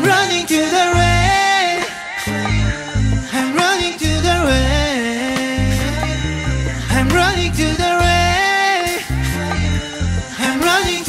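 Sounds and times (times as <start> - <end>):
heavy bass notes: 0.0 - 1.6, 2.2 - 11.0
man singing: 0.0 - 11.0.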